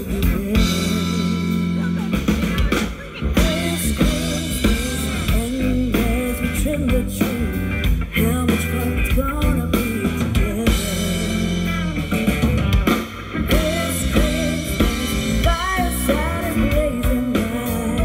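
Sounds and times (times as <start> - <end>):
woman singing: 0.0 - 12.2, 13.5 - 18.0
drum kit: 0.0 - 18.0
electric guitars: 0.0 - 18.0.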